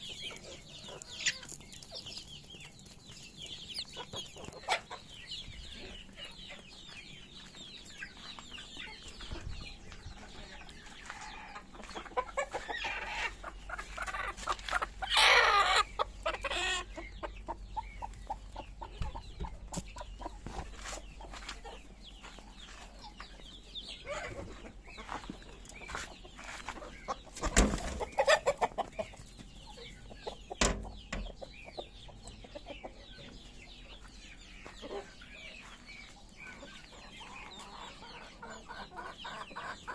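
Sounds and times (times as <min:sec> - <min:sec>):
chickens clucking: 0:00.0 - 0:39.9
chickens squawking: 0:00.0 - 0:39.9.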